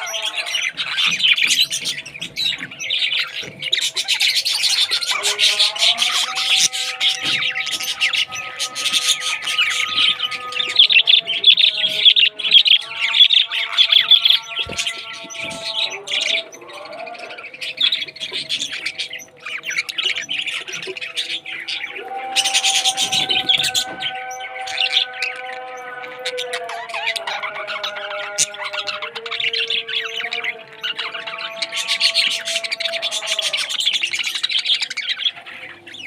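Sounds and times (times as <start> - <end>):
background music with held notes: 0.0 - 36.0
parrots chirping and squawking: 0.0 - 36.0.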